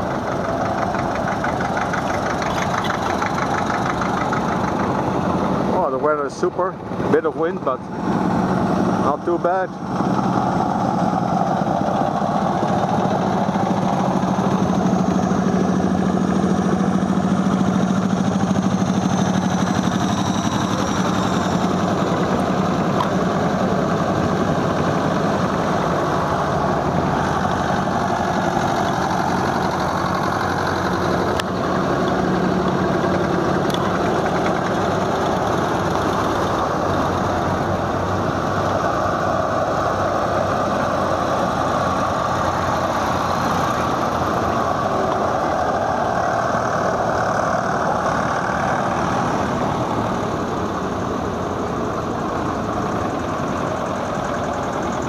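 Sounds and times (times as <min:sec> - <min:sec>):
tractor engines running: 0:00.0 - 0:55.0.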